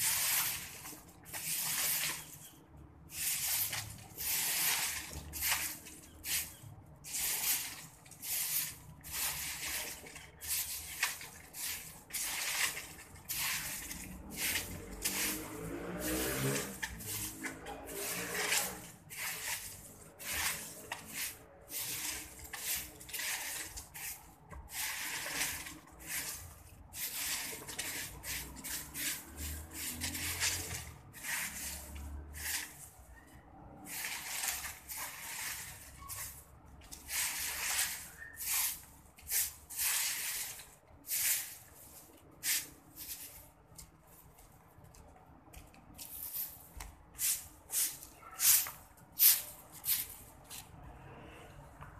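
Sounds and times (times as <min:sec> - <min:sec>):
broom sweeping concrete: 0:00.0 - 0:45.0, 0:45.6 - 0:51.4.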